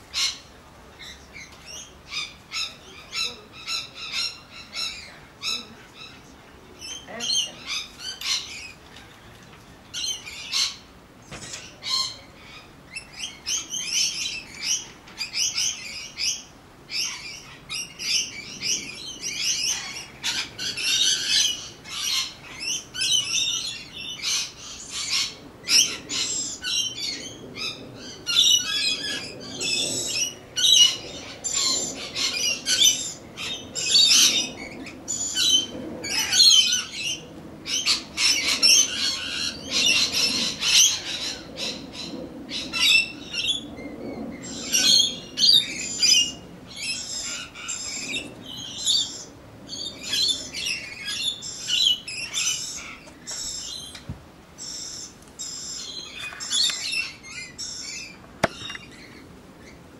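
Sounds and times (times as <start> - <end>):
birds chattering harshly: 0.0 - 59.9.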